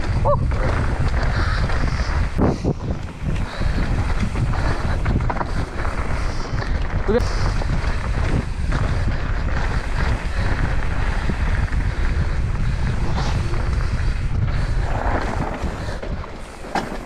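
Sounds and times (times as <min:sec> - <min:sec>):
bike tyres rumbling on dirt trail: 0:00.0 - 0:17.0
wind buffeting microphone: 0:00.0 - 0:17.0.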